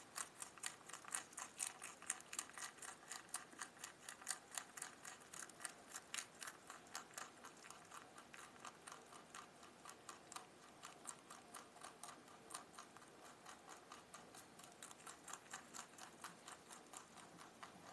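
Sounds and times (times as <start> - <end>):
rabbit chewing leafy stems: 0.0 - 17.9.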